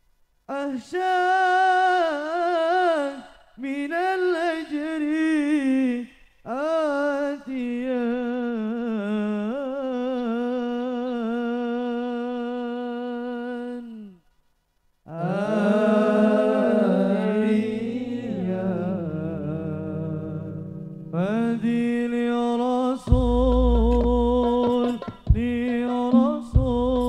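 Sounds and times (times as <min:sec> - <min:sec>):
man singing unaccompanied: 0:00.5 - 0:14.3, 0:15.1 - 0:27.0.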